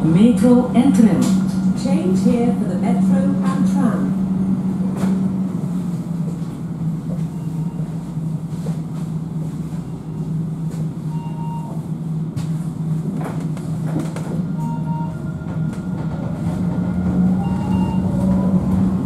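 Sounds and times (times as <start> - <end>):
tram drive hum: 0.0 - 19.0.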